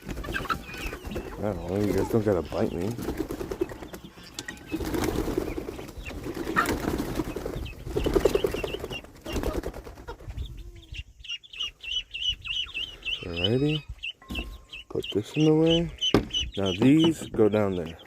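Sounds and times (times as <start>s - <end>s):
chicks peeping: 0.0s - 18.0s
young chickens clucking: 0.0s - 18.0s.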